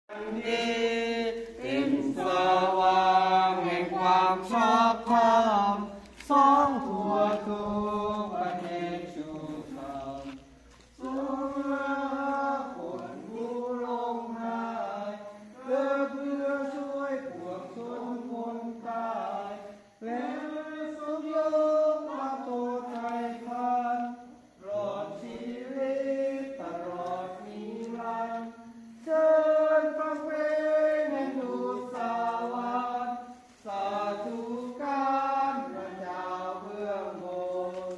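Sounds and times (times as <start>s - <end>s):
group singing a carol: 0.1s - 37.9s.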